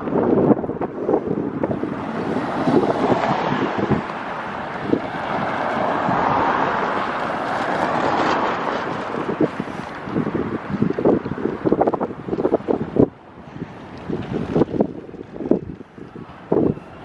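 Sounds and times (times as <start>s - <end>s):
low wind thumps: 0.0s - 16.8s
wind buffeting microphone: 0.0s - 17.0s.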